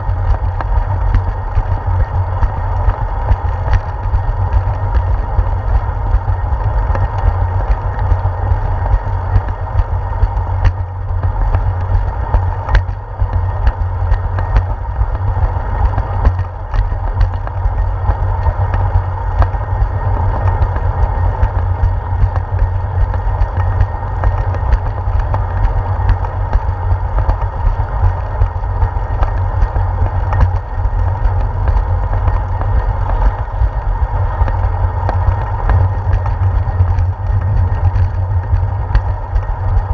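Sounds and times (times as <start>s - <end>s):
bicycle clicks and rattles: 0.0s - 39.9s
wind and tyre rumble: 0.0s - 39.9s.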